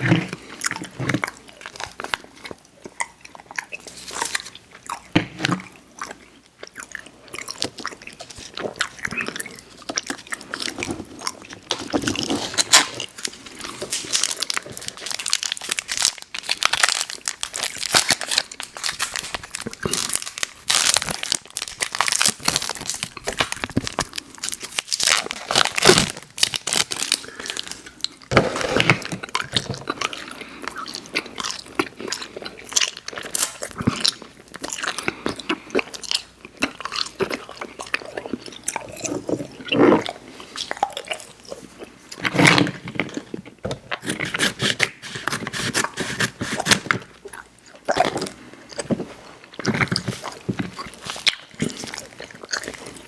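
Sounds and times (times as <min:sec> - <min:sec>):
wet chewing and crunching: 0:00.0 - 0:53.0.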